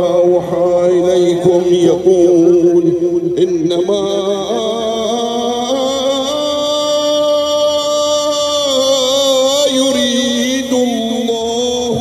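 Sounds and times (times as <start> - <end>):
man chanting melodic recitation: 0.0 - 12.0.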